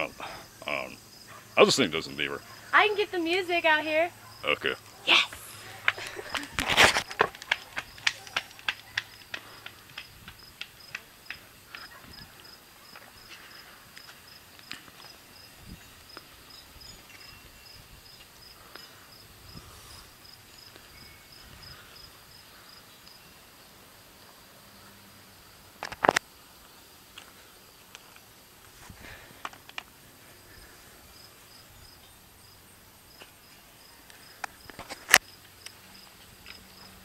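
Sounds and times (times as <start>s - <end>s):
insect chirping: 0.0s - 37.0s.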